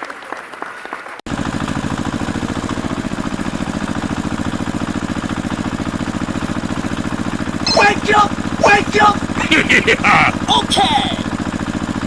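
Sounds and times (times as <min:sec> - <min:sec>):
engine idling with rapid chugging: 0:01.3 - 0:12.0.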